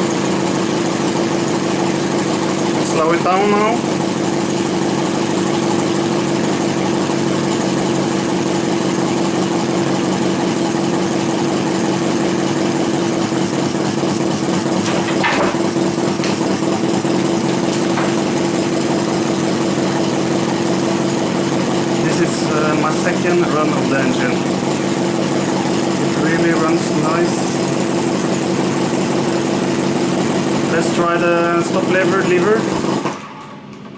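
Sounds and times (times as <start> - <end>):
model engine running: 0.0 - 33.2.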